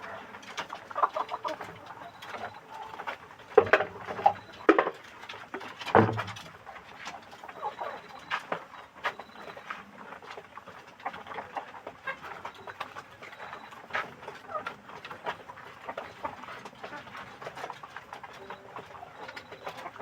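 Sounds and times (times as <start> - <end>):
chickens clucking and calling: 0.0 - 20.0.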